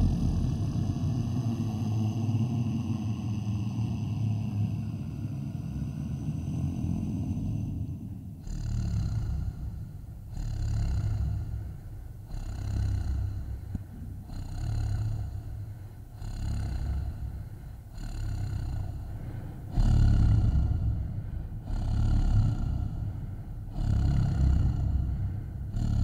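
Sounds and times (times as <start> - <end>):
low rumbling creature growl: 0.0 - 26.0.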